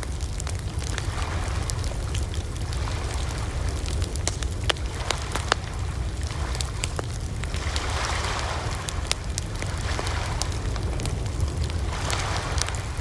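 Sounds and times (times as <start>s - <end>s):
low rush of flame: 0.0s - 13.0s
wood crackling and popping: 0.0s - 13.0s.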